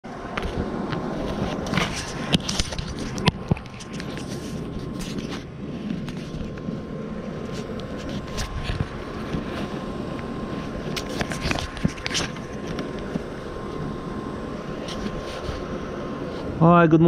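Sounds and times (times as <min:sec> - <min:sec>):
faint steady whine: 0:00.0 - 0:17.0
steady low rumble: 0:00.0 - 0:17.0.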